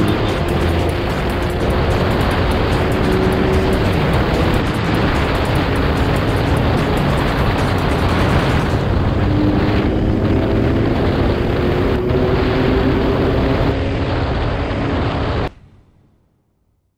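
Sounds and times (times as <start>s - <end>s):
motorcycle engine: 0.0s - 15.5s
wind buffeting microphone: 0.0s - 15.5s.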